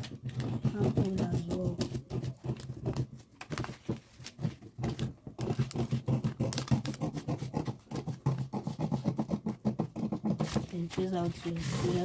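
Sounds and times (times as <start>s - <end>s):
paper rustling: 0.0s - 8.5s, 10.3s - 12.0s
scissors snipping paper: 0.0s - 12.0s.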